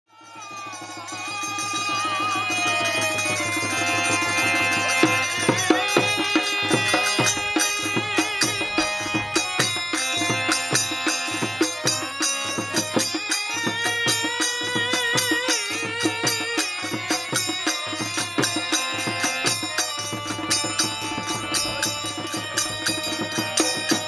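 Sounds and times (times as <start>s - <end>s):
ringing metal jingles: 0.3s - 24.0s
steady sustained tones: 0.3s - 24.0s
wavering melodic line: 0.3s - 24.0s
drum beaten in quick rhythm: 0.4s - 24.0s.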